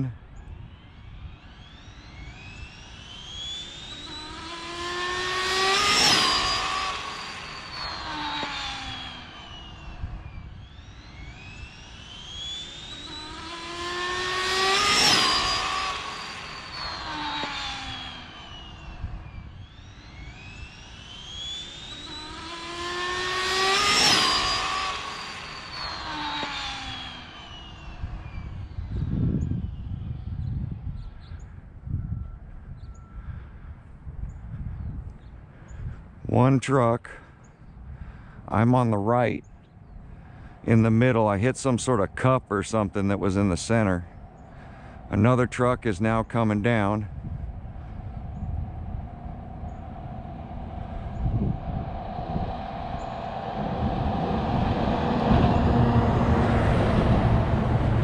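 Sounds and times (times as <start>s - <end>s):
rc car motor whine passing by: 0.0s - 36.2s, 37.1s - 58.0s.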